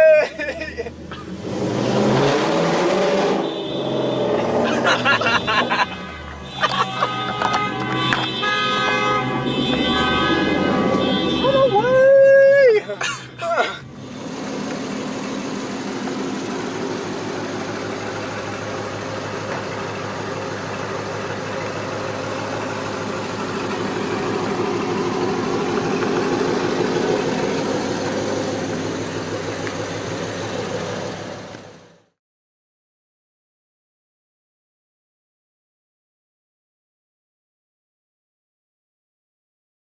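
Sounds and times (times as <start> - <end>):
car engine through open exhaust: 0.0 - 32.2.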